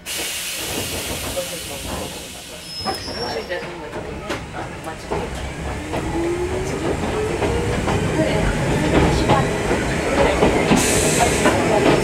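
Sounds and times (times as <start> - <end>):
train wheels rumbling and clicking: 0.0 - 12.0.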